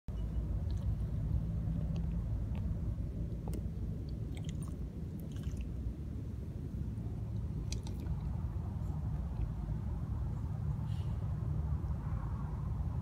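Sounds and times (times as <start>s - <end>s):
low rumble: 0.1s - 13.0s.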